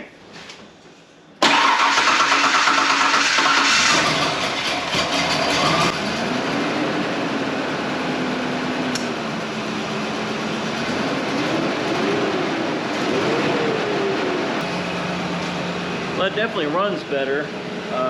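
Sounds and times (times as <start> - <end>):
car engine idling with misfire: 1.4 - 18.0.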